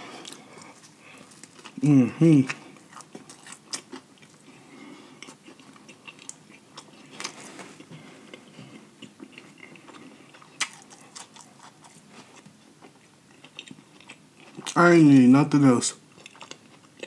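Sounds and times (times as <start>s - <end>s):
wet chewing and crunching: 0.1s - 14.8s, 16.1s - 17.0s.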